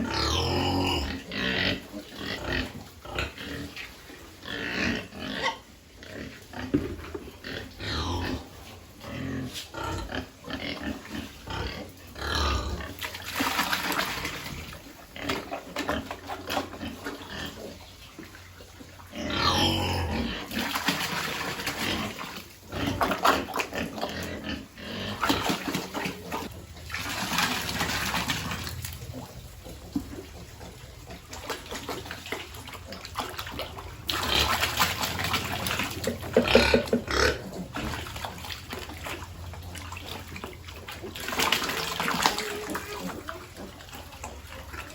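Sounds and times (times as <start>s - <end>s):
piglets grunting and squealing: 0.0s - 44.9s.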